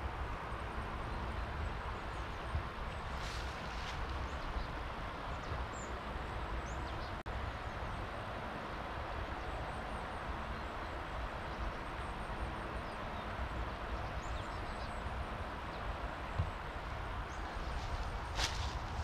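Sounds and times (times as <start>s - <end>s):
birds chirping: 0.0s - 8.0s, 8.7s - 19.0s
steady outdoor rushing noise: 0.0s - 19.0s.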